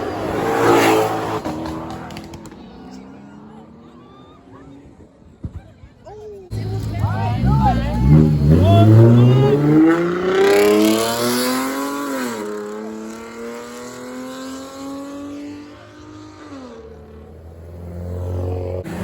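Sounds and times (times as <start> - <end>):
car accelerating hard: 0.0 - 3.6, 6.5 - 19.0.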